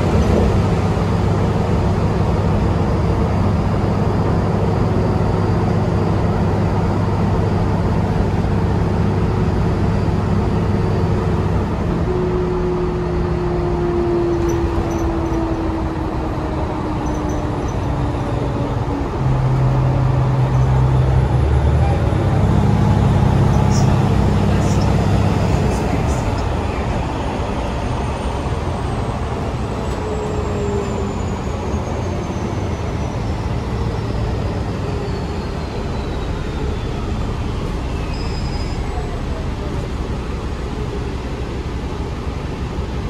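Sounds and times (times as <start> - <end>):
bus engine hum: 0.0 - 43.0
road noise: 0.0 - 43.0.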